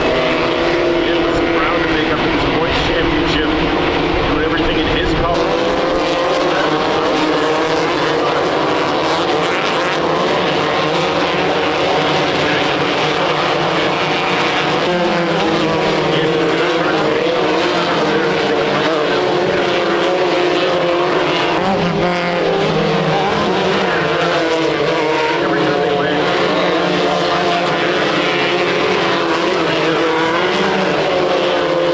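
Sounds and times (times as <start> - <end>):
racing engines running hard: 0.0 - 31.9.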